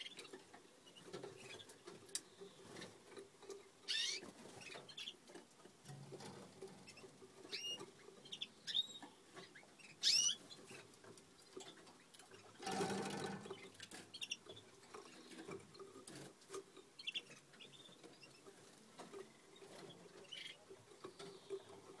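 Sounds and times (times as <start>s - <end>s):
rustle: 0.0s - 22.0s.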